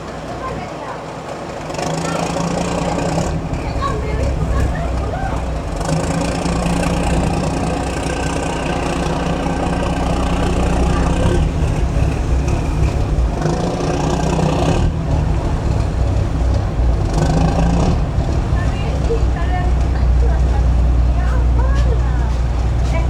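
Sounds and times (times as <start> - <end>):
large diesel engine humming: 0.0 - 23.0.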